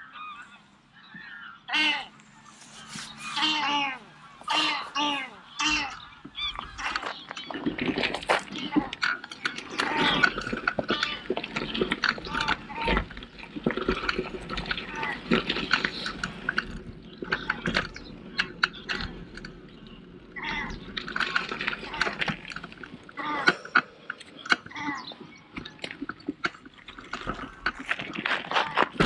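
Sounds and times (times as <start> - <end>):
waterbirds calling: 0.0 - 29.0
bike rattling and clicking: 4.1 - 29.0.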